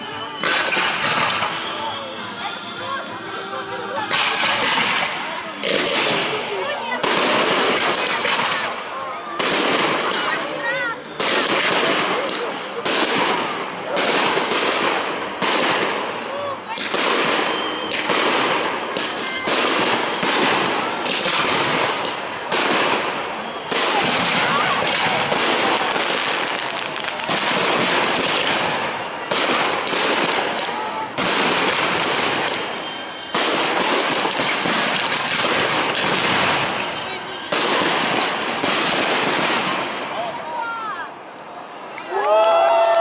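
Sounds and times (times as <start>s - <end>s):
firework crackling: 0.0s - 43.0s
firework bangs: 0.3s - 3.0s, 3.9s - 40.8s.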